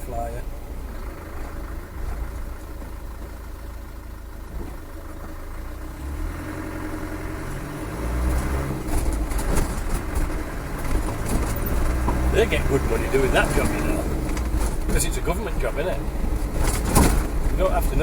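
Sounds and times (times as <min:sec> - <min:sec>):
diesel engine idling and pulling away: 0:00.0 - 0:18.0.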